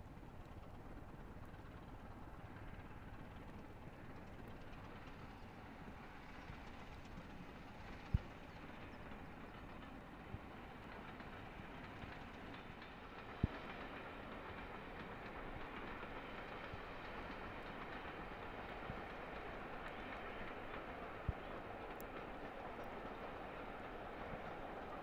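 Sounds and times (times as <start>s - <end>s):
distant diesel locomotive running: 0.0s - 25.0s.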